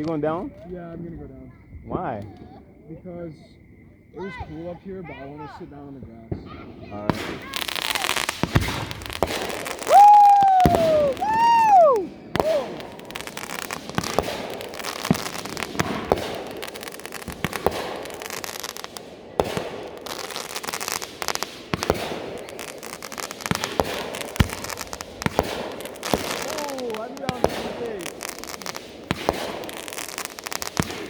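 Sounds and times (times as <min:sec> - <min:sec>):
firework bangs and pops: 0:00.0 - 0:00.7, 0:06.0 - 0:31.0
firework whistles: 0:06.1 - 0:31.0.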